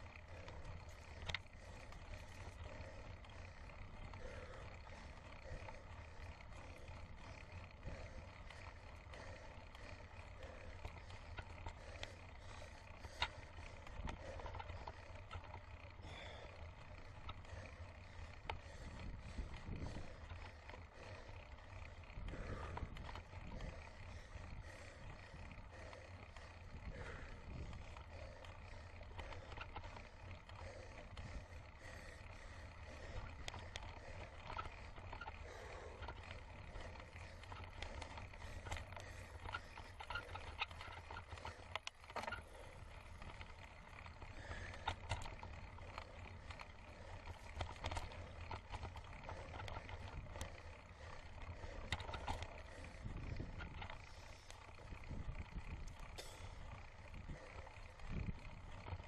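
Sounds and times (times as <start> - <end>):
bike clicks and rattles: 0.0 - 59.0
wind and tyres on dirt: 0.0 - 59.0.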